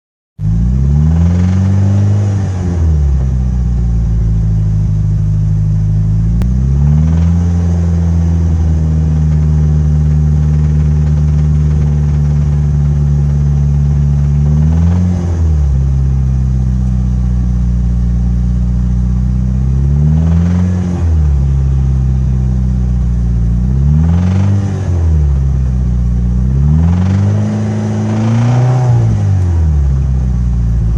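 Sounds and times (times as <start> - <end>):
car engine idling and revving: 0.4 - 30.9.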